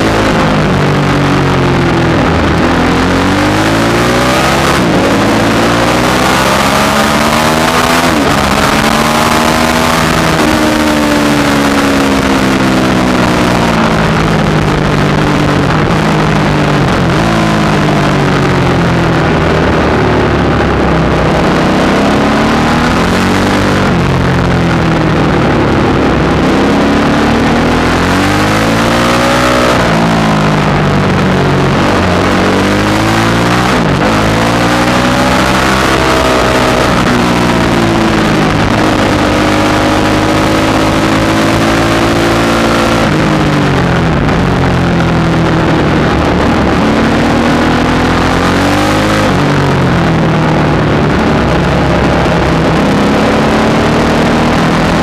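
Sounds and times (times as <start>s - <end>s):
motorcycle engine accelerating: 0.0s - 55.0s
wind noise: 0.0s - 55.0s.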